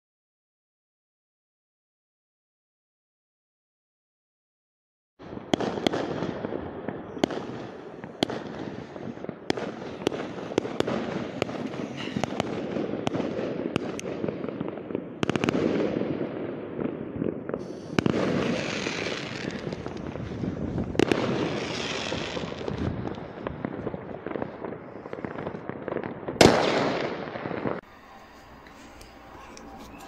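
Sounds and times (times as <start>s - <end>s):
fireworks and firecrackers banging: 5.2s - 30.0s.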